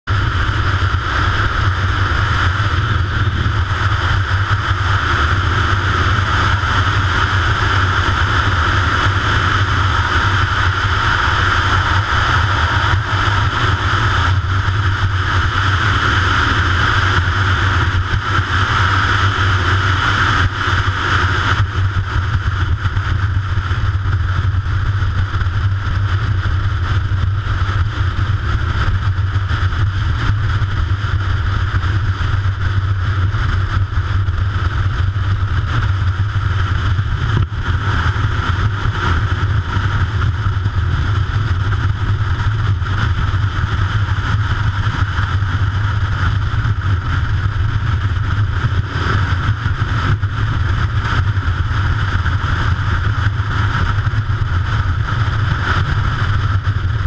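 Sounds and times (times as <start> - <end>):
motorcycle engine running: 0.0 - 57.0
wind on microphone: 0.1 - 57.0.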